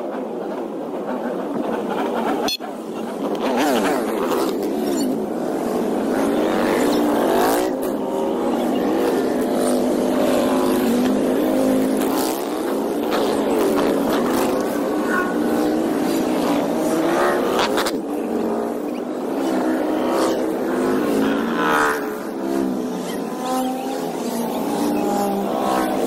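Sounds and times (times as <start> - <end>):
motorcycles riding past: 0.2 - 26.0.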